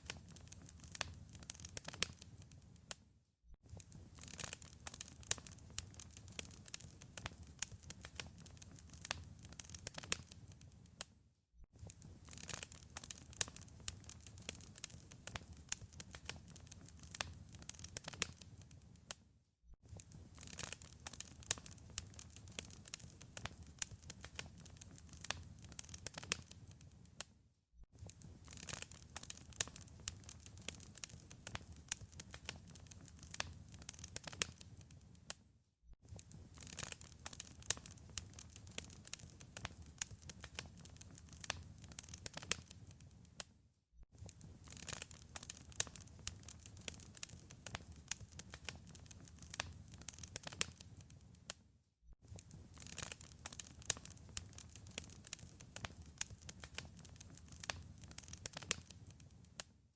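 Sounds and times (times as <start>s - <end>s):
wood fire crackling: 0.0s - 2.9s, 3.7s - 11.1s, 11.8s - 19.1s, 19.9s - 27.3s, 28.0s - 35.3s, 36.1s - 43.5s, 44.2s - 51.6s, 52.2s - 59.7s.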